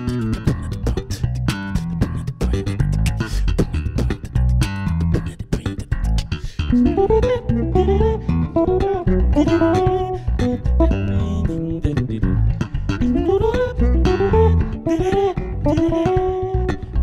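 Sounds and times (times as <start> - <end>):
bass guitar groove: 0.0 - 17.0
sliding bass guitar melody: 0.0 - 17.0.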